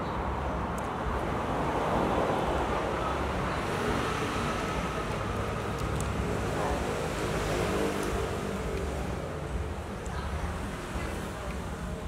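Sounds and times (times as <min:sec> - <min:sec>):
low outdoor background noise: 0:00.0 - 0:12.0.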